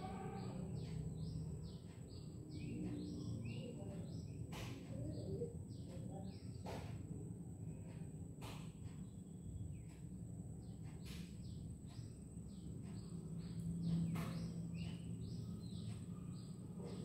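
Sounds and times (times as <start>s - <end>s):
birds chirping: 0.0s - 17.0s
low background rumble: 0.0s - 17.0s.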